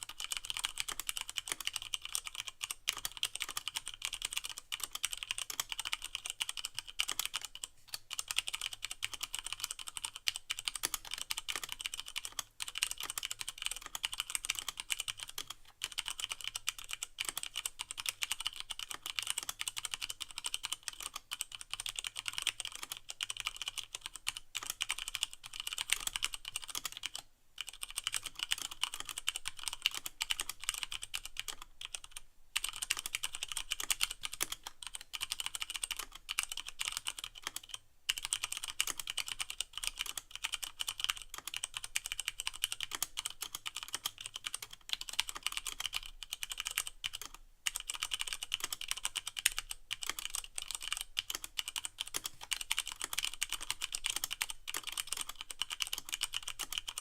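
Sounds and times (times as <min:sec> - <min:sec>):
fast mechanical keyboard typing: 0:00.0 - 0:57.0.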